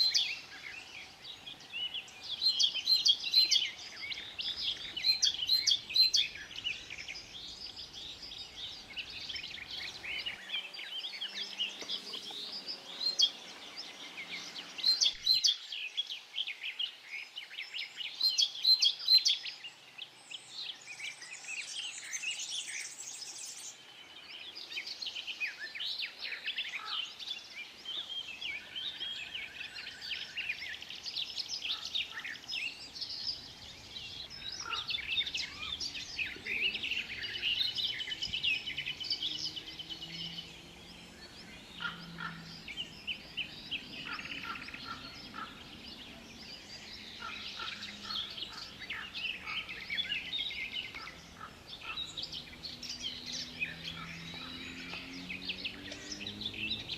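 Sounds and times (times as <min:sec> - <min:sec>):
birds chirping and singing: 0:00.0 - 0:56.9.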